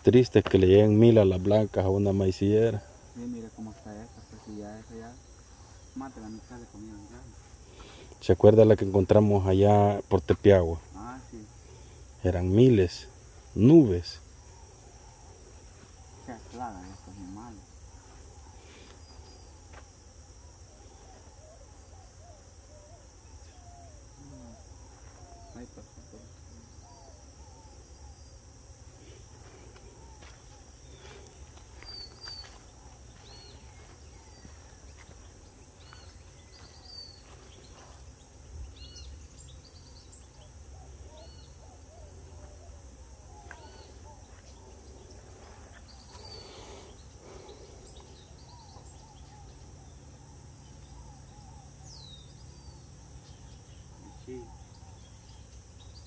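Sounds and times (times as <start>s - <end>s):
birds chirping: 0.0s - 56.0s
high insect drone: 0.0s - 56.0s.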